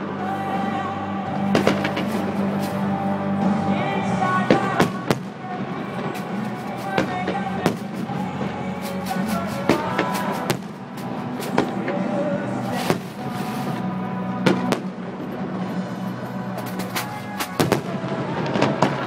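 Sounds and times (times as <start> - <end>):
background music: 0.0 - 19.0
firework shells bursting with bangs: 1.4 - 15.7, 16.4 - 19.0.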